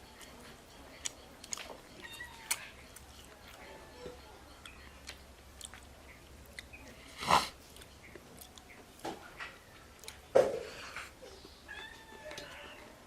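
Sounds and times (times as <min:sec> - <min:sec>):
close-up chewing: 0:00.0 - 0:11.5.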